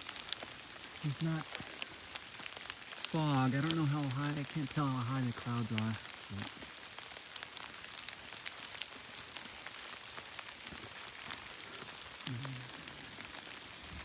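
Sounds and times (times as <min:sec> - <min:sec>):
light rain on leaves: 0:00.0 - 0:14.0.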